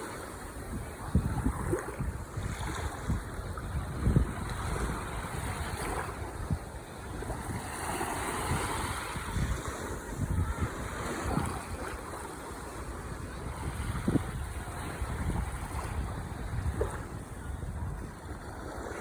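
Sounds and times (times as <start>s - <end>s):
ocean waves washing ashore: 0.0s - 19.0s
wind buffeting microphone: 0.0s - 19.0s.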